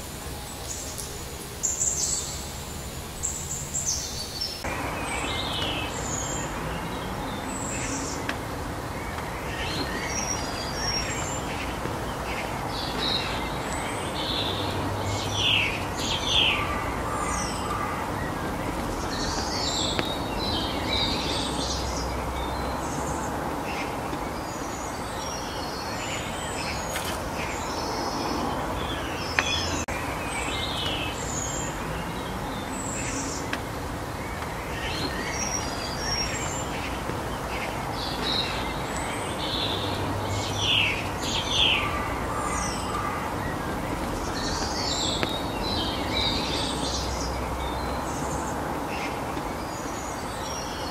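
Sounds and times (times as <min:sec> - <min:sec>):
outdoor ambient hiss: 0:00.0 - 0:50.9
songbirds chirping: 0:00.0 - 0:50.9.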